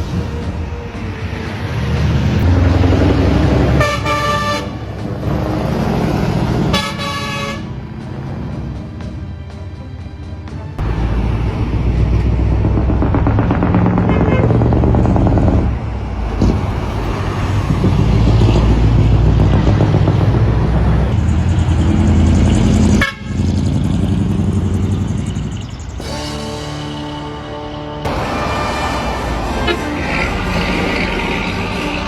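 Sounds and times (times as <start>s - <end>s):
diesel truck engine revving: 0.0s - 9.4s, 10.6s - 32.0s.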